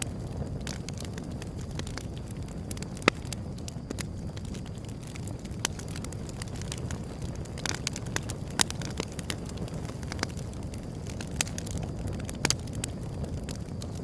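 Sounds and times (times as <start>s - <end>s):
burning wood crackling and popping: 0.0s - 14.0s
flames rumbling: 0.0s - 14.0s.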